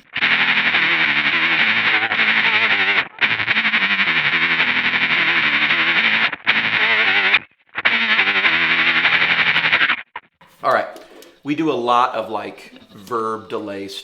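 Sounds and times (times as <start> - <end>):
electric guitar with tremolo: 0.0 - 11.4.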